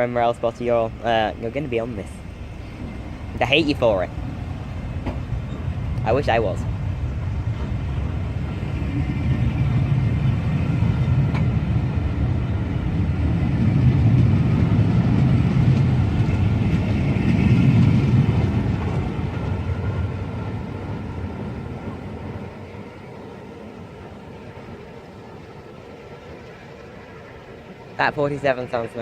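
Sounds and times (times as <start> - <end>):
diesel locomotive engine rumbling: 0.0 - 29.0.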